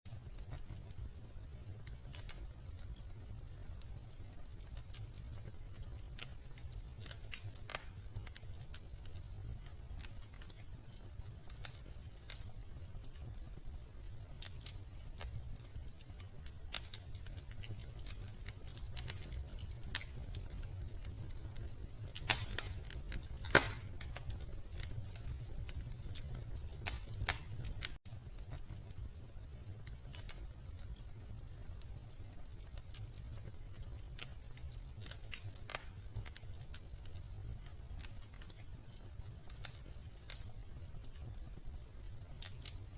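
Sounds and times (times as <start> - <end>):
wood fire crackling and popping: 0.1 - 42.9.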